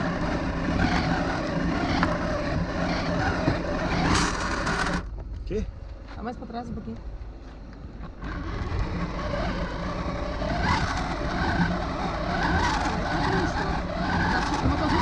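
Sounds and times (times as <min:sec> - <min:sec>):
blender motor labouring: 0:00.0 - 0:05.1, 0:08.0 - 0:15.0.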